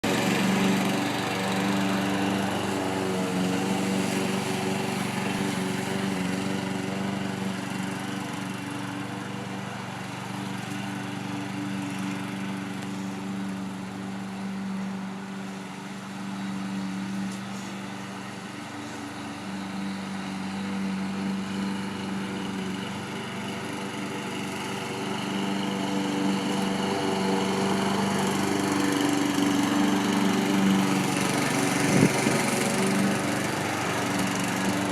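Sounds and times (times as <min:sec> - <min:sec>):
lawn mower engine running: 0:00.0 - 0:34.9.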